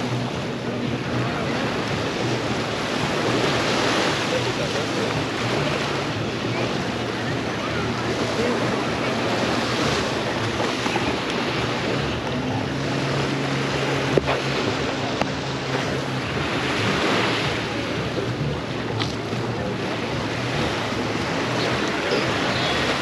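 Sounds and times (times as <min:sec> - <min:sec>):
surf breaking on beach: 0:00.0 - 0:23.0
wind on microphone: 0:00.0 - 0:23.0.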